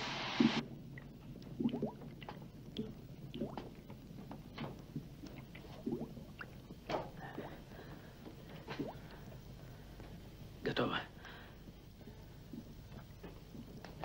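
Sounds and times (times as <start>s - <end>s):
thick varnish bubbling: 0.0s - 10.3s, 11.7s - 14.0s.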